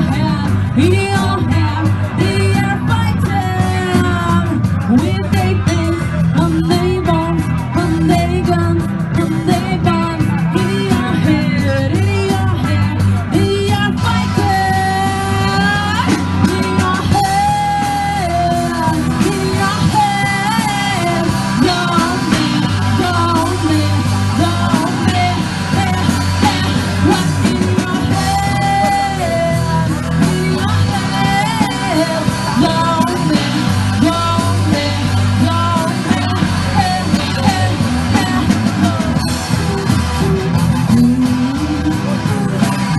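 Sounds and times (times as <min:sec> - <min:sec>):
lead singer singing: 0:00.0 - 0:42.9
rock band playing live: 0:00.0 - 0:42.9.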